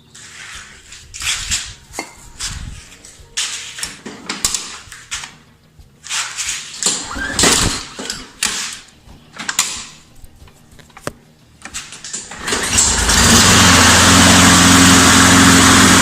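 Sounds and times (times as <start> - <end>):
clattering and scraping on lawn mower: 0.0 - 16.0.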